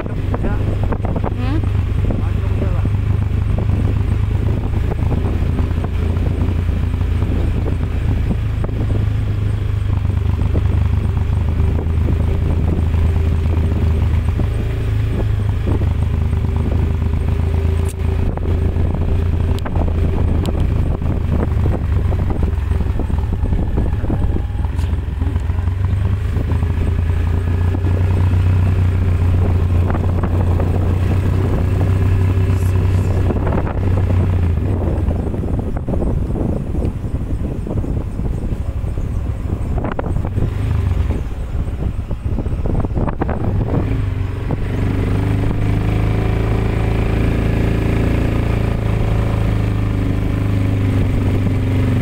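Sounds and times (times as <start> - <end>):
road noise: 0.0 - 52.0
vehicle engine drone: 0.0 - 52.0.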